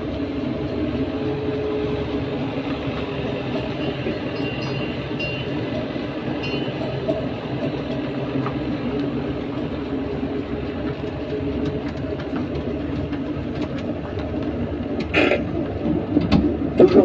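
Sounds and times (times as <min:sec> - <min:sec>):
engine drone and rumble: 0:00.0 - 0:17.0.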